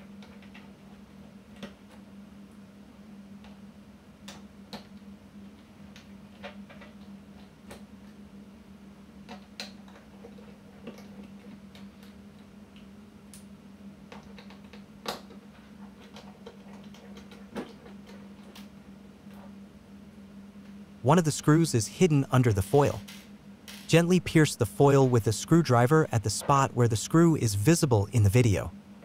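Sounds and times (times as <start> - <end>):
steady low hum: 0.9 - 15.9, 16.5 - 29.0.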